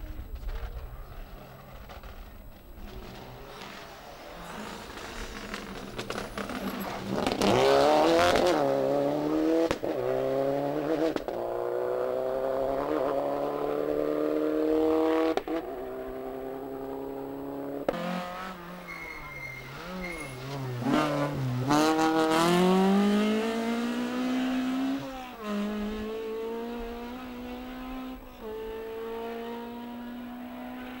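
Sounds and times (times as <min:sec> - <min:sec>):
rally cars passing at speed: 0:01.5 - 0:31.0.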